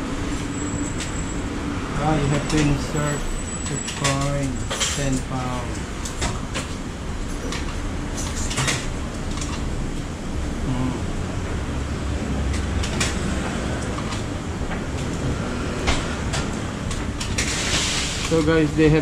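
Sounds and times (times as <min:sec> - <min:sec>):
washing machine rumble: 0:00.0 - 0:10.2, 0:11.5 - 0:19.0.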